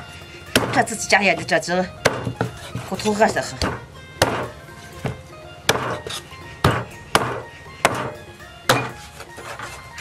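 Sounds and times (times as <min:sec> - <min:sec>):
cleaver chopping bone on wood: 0:00.5 - 0:09.0.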